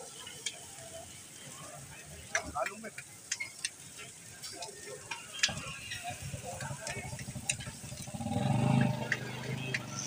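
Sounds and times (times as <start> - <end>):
kebabs sizzling on griddle: 0.0 - 10.0.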